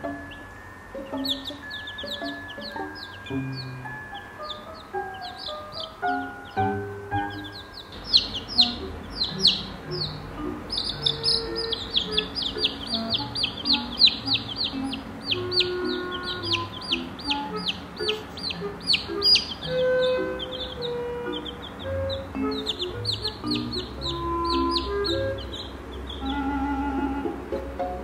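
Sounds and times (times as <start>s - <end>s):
chicks peeping: 0.0s - 28.0s
soft background music: 0.0s - 28.0s.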